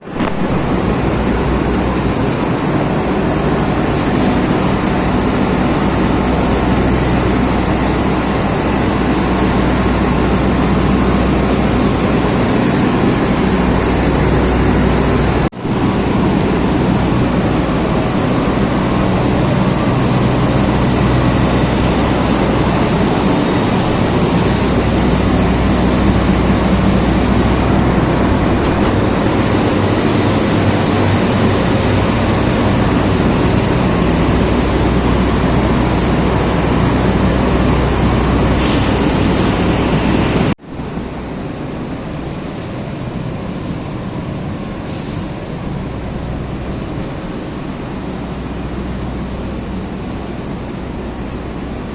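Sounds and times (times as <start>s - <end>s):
condenser fan air rushing: 0.0s - 51.9s.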